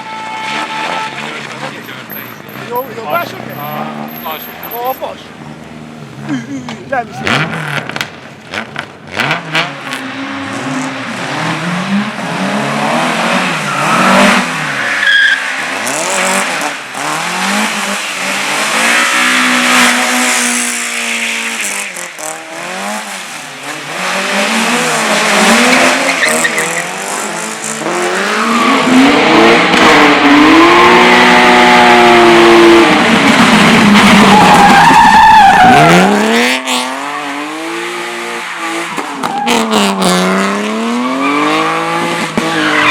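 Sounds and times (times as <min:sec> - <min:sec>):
tyres squealing and skidding: 0:00.0 - 0:06.2, 0:09.5 - 0:42.9
race car engines revving: 0:00.0 - 0:42.9.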